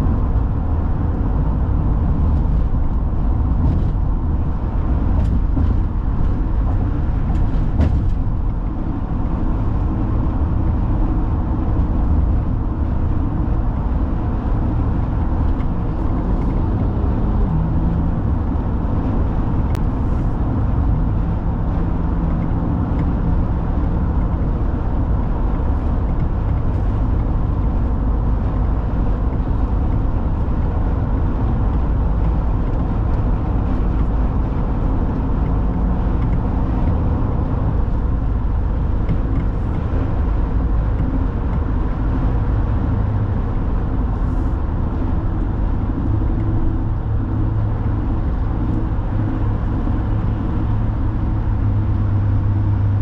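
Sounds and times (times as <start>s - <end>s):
car driving on highway: 0.0s - 53.0s.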